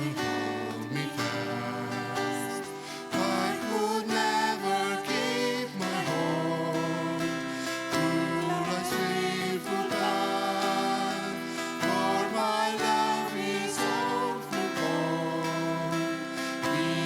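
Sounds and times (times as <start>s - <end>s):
guitar accompaniment: 0.0s - 17.0s
voices singing together: 0.0s - 17.0s.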